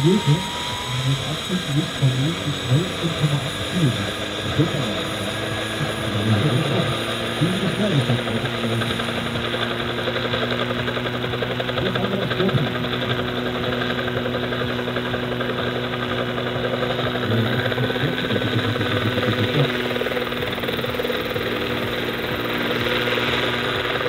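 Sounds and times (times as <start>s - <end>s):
model helicopter motor humming: 0.0s - 24.0s.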